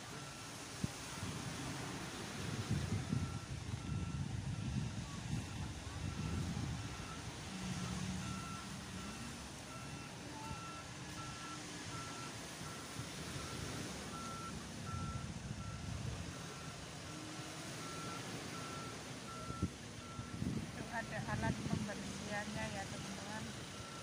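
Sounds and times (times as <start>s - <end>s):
low engine rumble: 0.0s - 24.0s
reversing alarm beeping: 0.1s - 24.0s.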